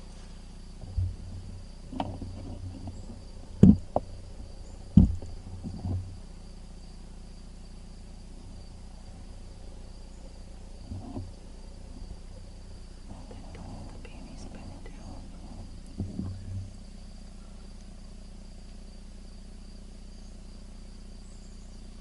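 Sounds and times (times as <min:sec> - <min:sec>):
dull low knocks and thumps: 0:00.0 - 0:07.1, 0:07.9 - 0:19.0
crickets chirping: 0:00.0 - 0:22.0.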